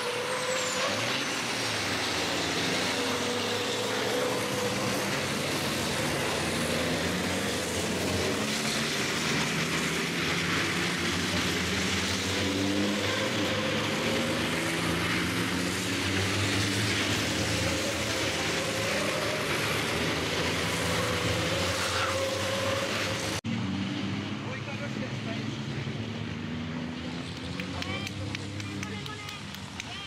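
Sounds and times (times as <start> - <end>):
truck engines revving: 0.0 - 30.0.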